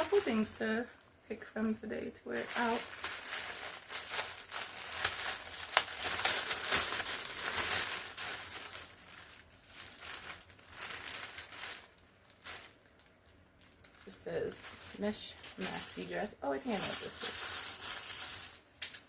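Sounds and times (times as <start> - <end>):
packaging crinkling: 2.3 - 19.0.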